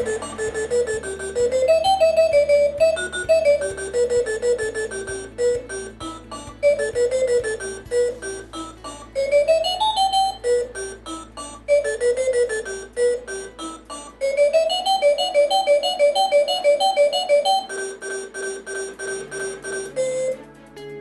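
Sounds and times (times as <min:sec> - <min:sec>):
keyboard melody: 0:00.0 - 0:21.0.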